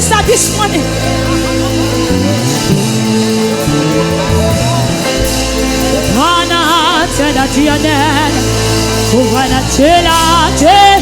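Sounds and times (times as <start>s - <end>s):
instrumental gospel worship music: 0.0s - 11.0s.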